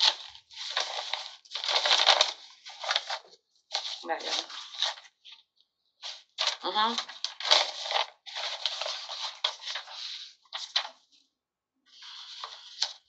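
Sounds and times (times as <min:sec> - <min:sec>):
paper sheets rustling and shuffling: 0:00.0 - 0:11.3, 0:11.9 - 0:13.0.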